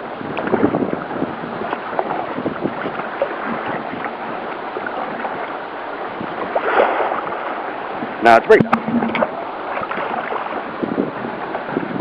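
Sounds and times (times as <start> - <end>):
waves splashing against kayak hull: 0.0 - 12.0.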